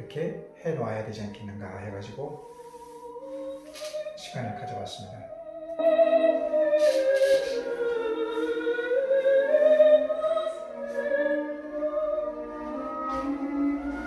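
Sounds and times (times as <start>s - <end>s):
opera singing: 0.0s - 14.0s
soft accompaniment: 0.0s - 14.0s.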